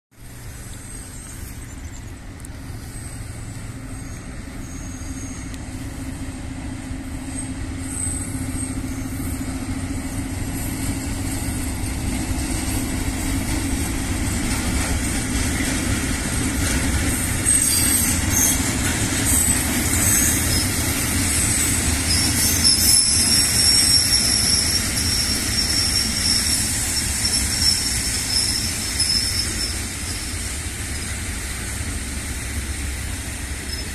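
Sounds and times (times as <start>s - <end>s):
diesel locomotive engine drone: 0.1s - 33.9s
wagon wheels squealing: 0.4s - 6.0s, 7.1s - 31.3s, 33.4s - 33.9s.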